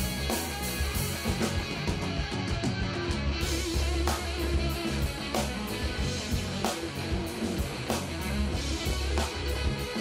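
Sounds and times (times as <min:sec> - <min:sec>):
bass guitar: 0:00.0 - 0:10.0
drum kit with cymbals: 0:00.0 - 0:10.0
electric guitar: 0:00.0 - 0:10.0.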